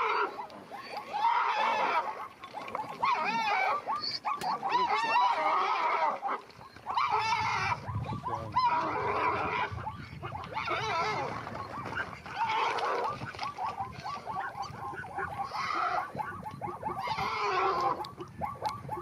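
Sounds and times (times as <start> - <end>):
animal squealing: 0.0 - 19.0.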